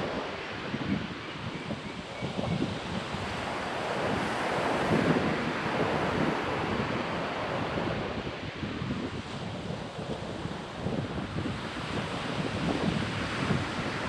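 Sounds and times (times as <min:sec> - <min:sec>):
ocean waves breaking: 0:00.0 - 0:01.5, 0:02.8 - 0:14.0
wind buffeting microphone: 0:00.0 - 0:14.0.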